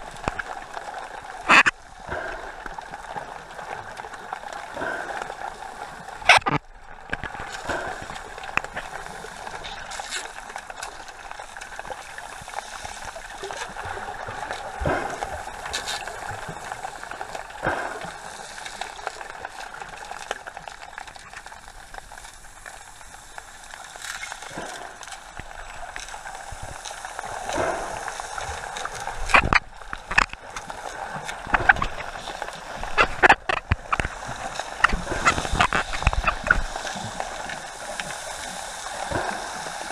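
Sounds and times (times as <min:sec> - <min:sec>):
sea water sloshing: 0:00.0 - 0:39.9
water splashes: 0:00.0 - 0:39.9.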